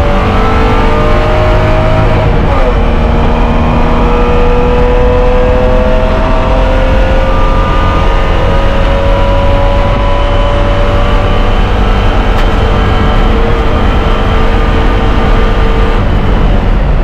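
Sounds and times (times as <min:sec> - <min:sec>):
race car engine at full throttle: 0:00.0 - 0:17.0
road and wind noise: 0:00.0 - 0:17.0.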